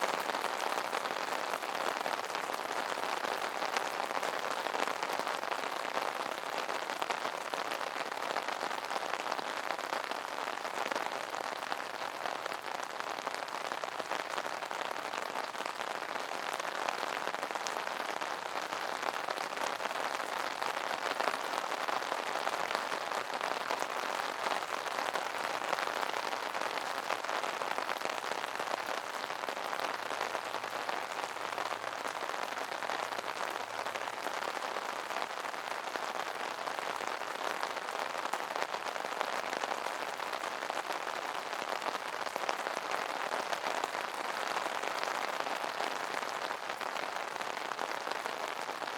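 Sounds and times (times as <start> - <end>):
rain pattering on an umbrella: 0.0 - 48.9.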